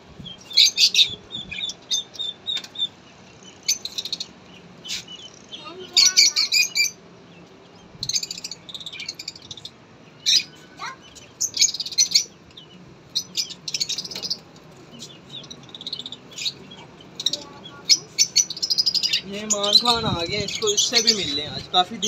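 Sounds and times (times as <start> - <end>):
lovebirds chirping: 0.0 - 22.0.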